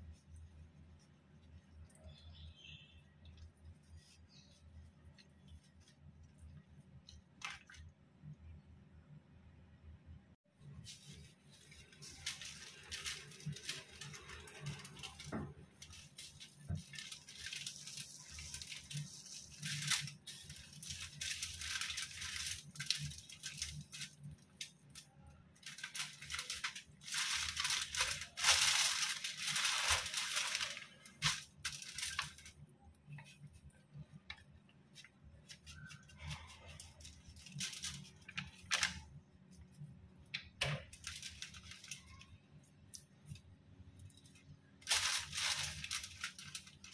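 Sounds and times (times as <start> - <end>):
aluminium foil crinkling: 0.0 - 7.9, 10.8 - 46.9.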